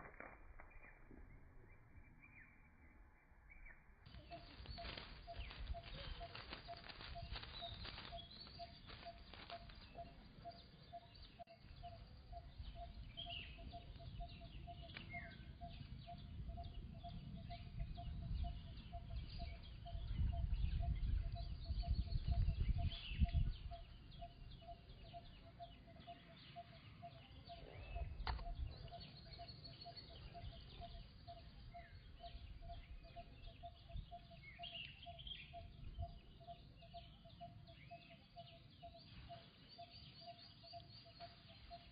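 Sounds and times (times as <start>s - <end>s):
bird chirps: 0.0s - 41.9s.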